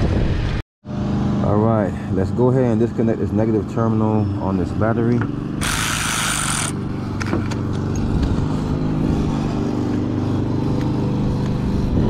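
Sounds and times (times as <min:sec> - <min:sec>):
car engine running: 0:00.9 - 0:12.0.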